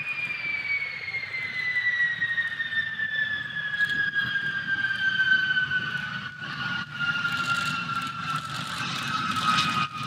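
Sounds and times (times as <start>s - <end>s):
jet engine whine: 0.0s - 10.0s.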